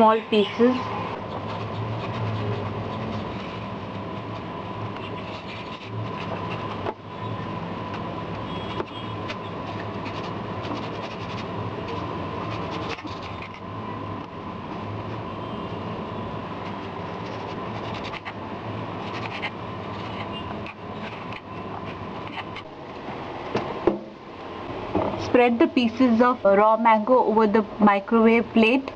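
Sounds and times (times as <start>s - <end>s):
mechanical hum with whine: 0.0s - 28.9s.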